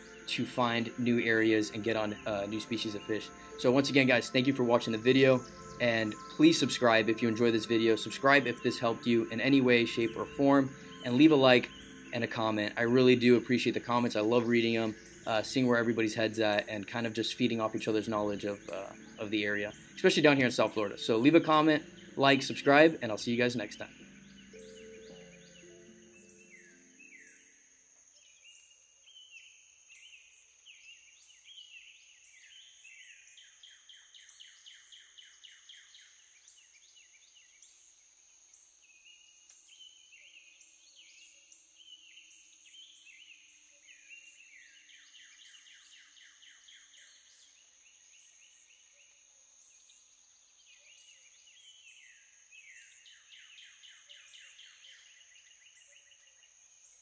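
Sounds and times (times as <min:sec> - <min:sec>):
faint bird chirps: 0:00.0 - 0:57.0.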